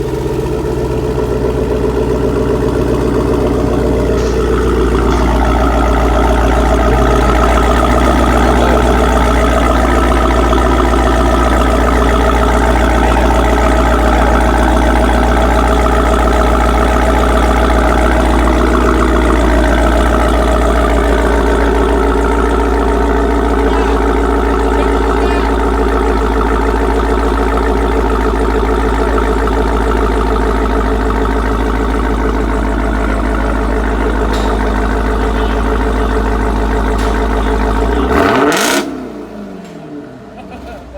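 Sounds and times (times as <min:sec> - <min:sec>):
car engine idling rumble: 0:00.0 - 0:40.9.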